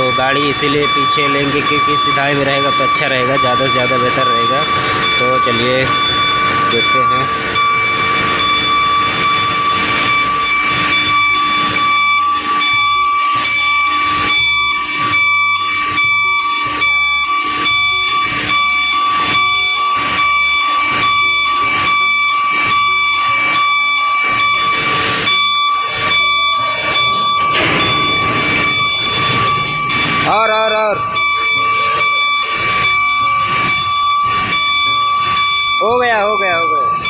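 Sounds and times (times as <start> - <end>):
pulsing reversing alarm: 0.0 - 37.0.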